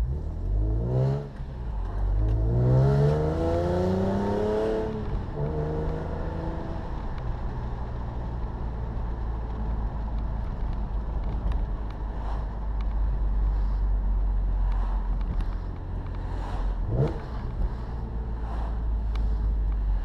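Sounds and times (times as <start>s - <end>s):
car engine droning at low revs: 0.0s - 20.0s
road and tyre noise: 0.0s - 20.0s.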